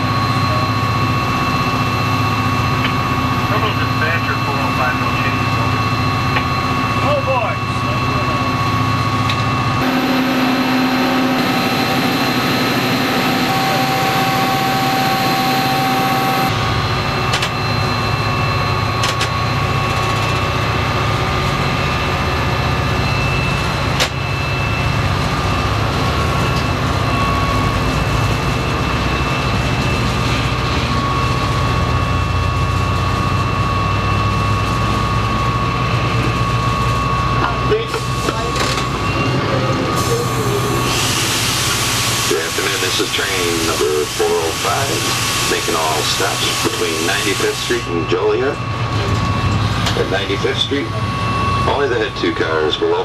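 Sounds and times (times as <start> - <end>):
diesel locomotive engine running: 0.0 - 53.0.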